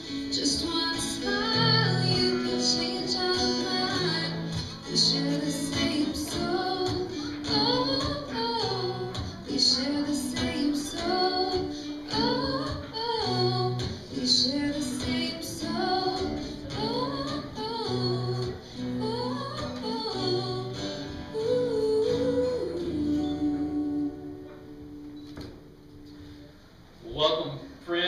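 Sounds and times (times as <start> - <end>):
woman singing: 0.0 - 24.8.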